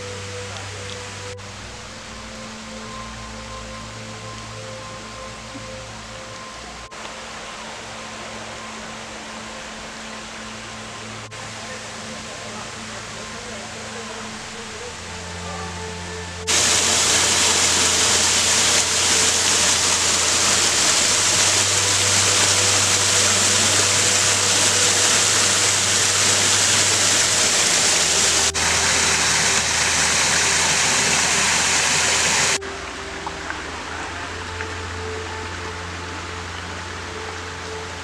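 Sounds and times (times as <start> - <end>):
waterfall rushing over rocks: 0.0 - 38.0.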